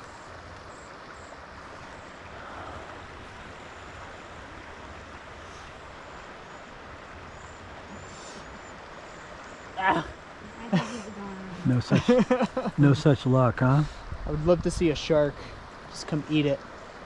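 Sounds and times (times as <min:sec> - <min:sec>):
stream water flowing into pool: 0:00.0 - 0:17.0.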